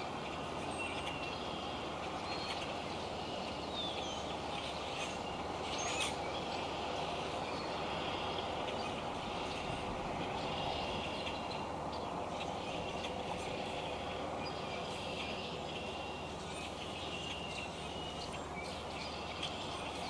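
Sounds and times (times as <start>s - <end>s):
birds chirping and whistling: 0.6s - 20.0s.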